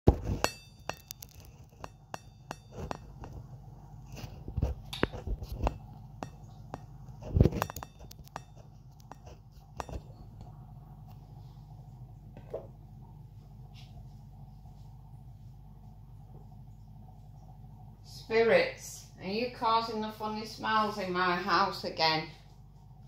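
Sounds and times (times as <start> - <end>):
faint low hum: 0.1 - 23.0.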